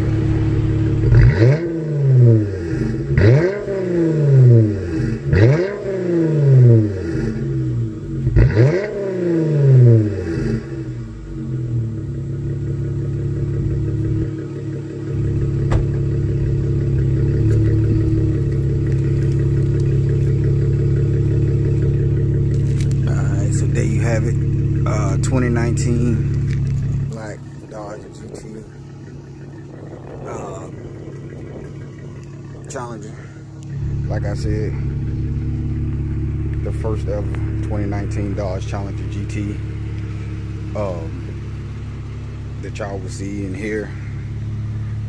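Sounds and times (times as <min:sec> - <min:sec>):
car engine idling: 0:00.0 - 0:45.0
car exhaust throttle blips: 0:00.0 - 0:45.0.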